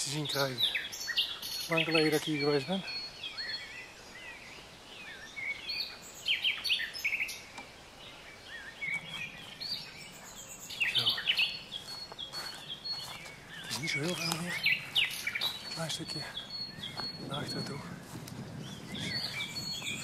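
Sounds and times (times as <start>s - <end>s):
small birds chirping: 0.0s - 20.0s
steady background noise: 0.0s - 20.0s.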